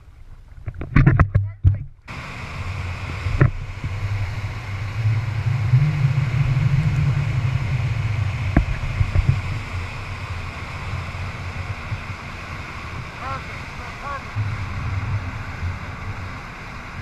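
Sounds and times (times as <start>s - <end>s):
boat engine rumble: 0.0s - 17.0s
rushing wake water: 0.0s - 17.0s.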